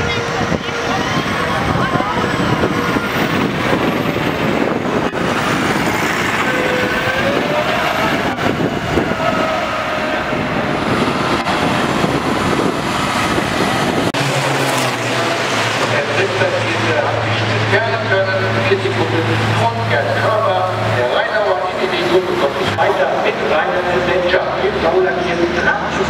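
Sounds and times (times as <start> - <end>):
truck diesel engine passing: 0.0 - 26.0
whining tones: 0.0 - 26.0.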